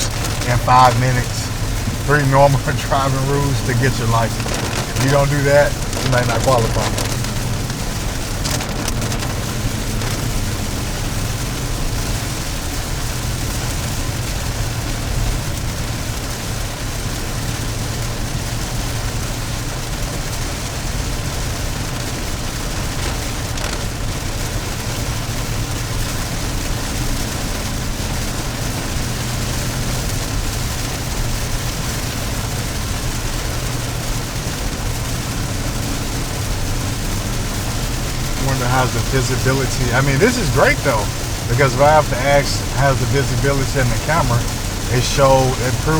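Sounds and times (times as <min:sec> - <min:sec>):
wet tyres hissing: 0:00.0 - 0:14.8, 0:20.7 - 0:45.9
car engine hum: 0:00.0 - 0:45.9
rain on car: 0:00.0 - 0:45.9.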